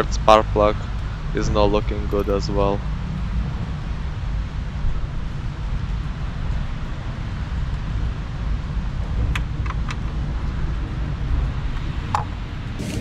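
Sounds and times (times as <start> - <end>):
wind buffeting the microphone: 0.8 - 13.0.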